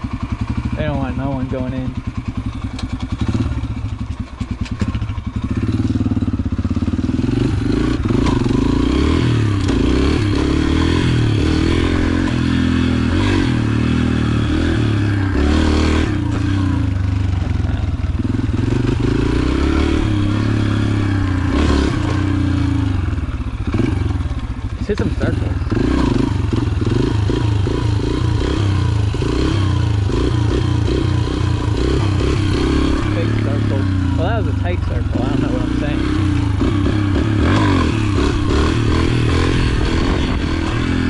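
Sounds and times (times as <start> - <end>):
dirt bike engine running: 0.0 - 41.0.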